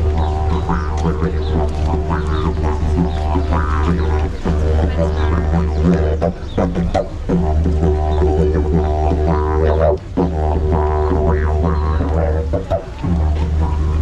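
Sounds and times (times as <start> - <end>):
didgeridoo drone: 0.0 - 14.0.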